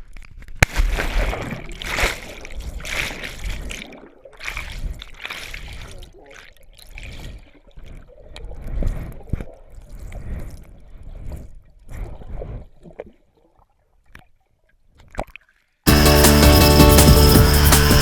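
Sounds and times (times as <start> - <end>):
water splashing in a pool: 0.4 - 15.8.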